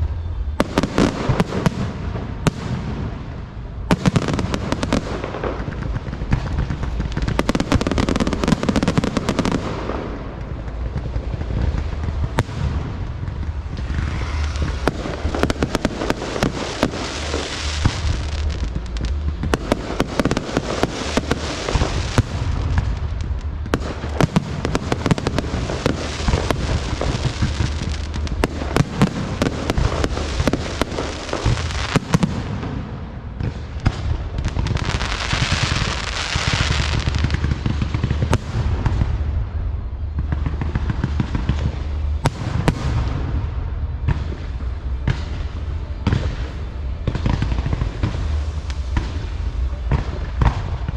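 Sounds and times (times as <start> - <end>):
crackling hiss: 0.0 - 50.9
low rumble: 0.0 - 50.9.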